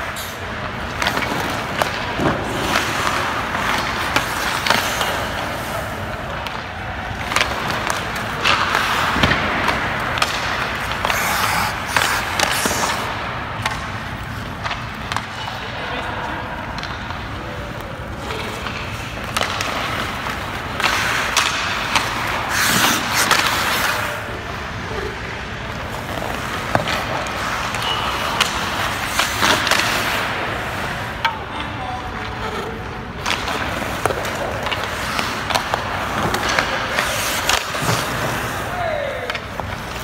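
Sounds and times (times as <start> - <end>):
skate blades scraping ice: 0.0 - 15.6, 16.7 - 40.0
pucks and sticks knocking: 0.6 - 15.7, 16.6 - 24.8, 25.7 - 40.0.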